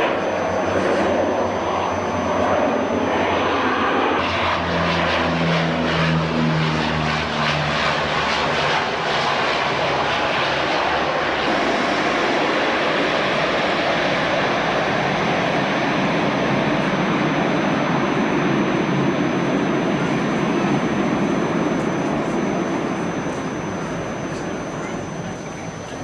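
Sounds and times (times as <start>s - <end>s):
low humming engine tone: 0.0s - 26.0s
propeller plane flying by: 0.0s - 26.0s.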